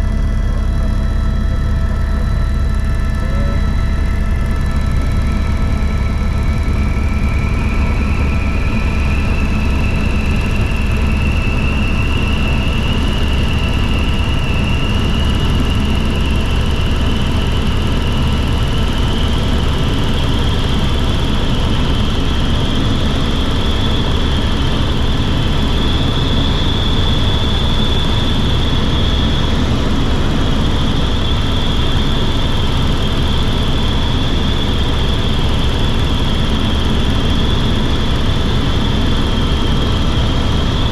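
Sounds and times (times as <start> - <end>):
helicopter engine and rotor drone: 0.0 - 40.9
high turbine whine: 0.0 - 40.9.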